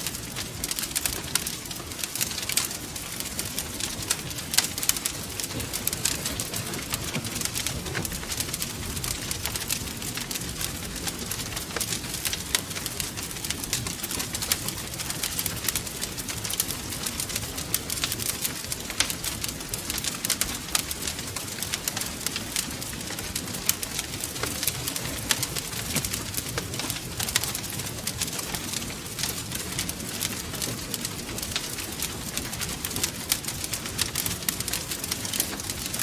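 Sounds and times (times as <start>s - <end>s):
low fire rumble: 0.0s - 36.0s
wood fire crackling: 0.0s - 36.0s.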